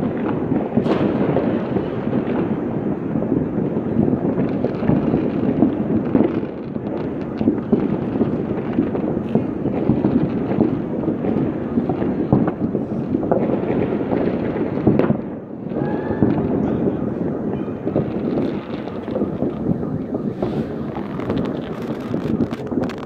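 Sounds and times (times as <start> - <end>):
distant fireworks bangs and pops: 0.0 - 23.0
sharp firework cracks: 0.0 - 23.0.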